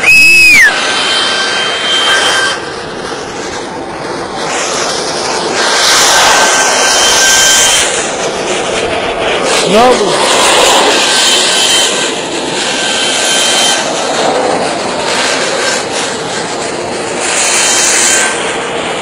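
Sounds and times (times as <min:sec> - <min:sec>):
high-pressure gas jetting: 0:00.0 - 0:19.0.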